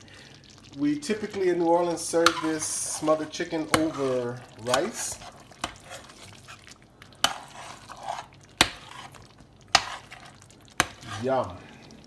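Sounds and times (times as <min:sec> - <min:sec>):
soft scraping of food: 0:02.2 - 0:12.0.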